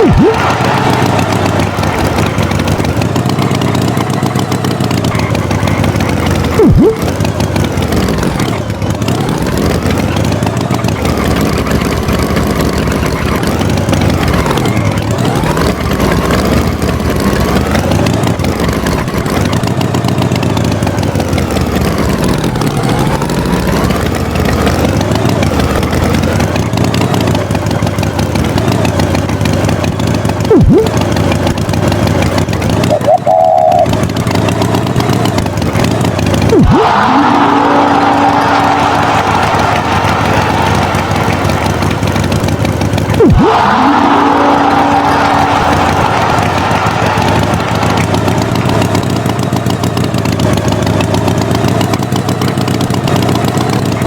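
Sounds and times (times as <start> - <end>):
loud engine blip: 0.0 - 54.0
tractor engine revving: 0.0 - 54.0.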